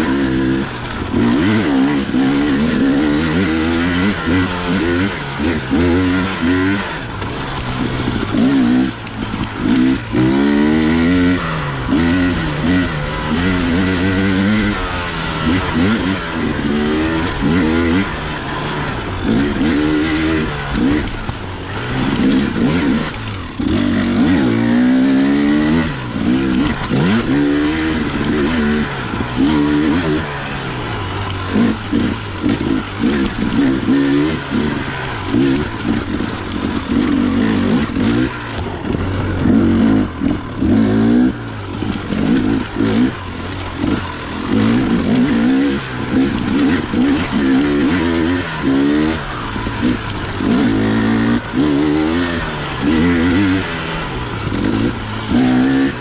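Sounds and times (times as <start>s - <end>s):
two-stroke dirt bike revving: 0.0s - 56.0s.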